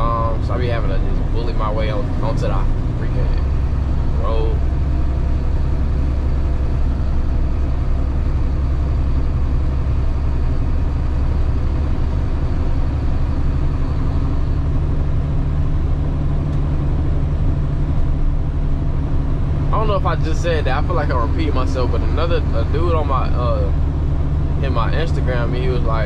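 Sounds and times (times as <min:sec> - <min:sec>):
road noise: 0:00.0 - 0:26.0
truck engine running: 0:00.0 - 0:26.0.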